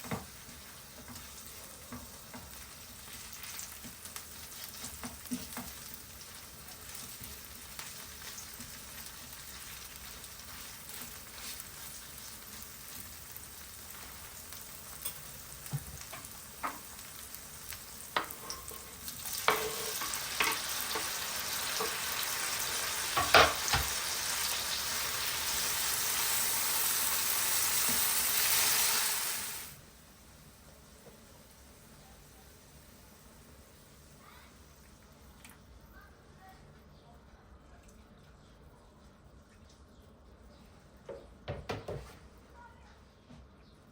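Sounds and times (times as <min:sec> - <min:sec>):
food sizzling in a frying pan: 0:00.0 - 0:35.4.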